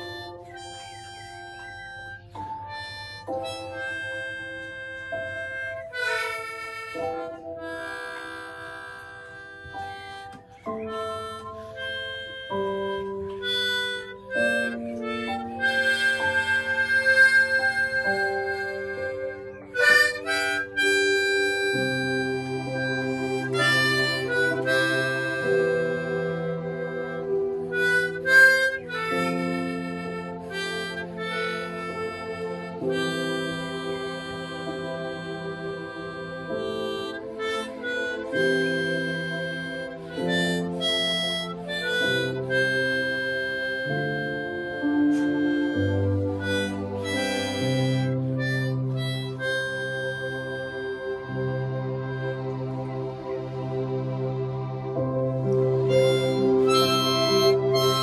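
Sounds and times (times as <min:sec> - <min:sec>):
harmonica chords: 0:00.0 - 0:58.0.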